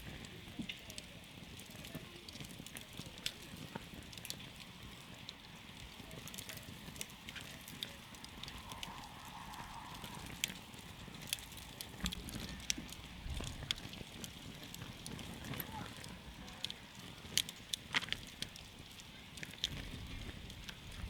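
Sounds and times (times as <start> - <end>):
burning wood crackling and popping: 0.0 - 21.0
hiss of flames: 0.0 - 21.0.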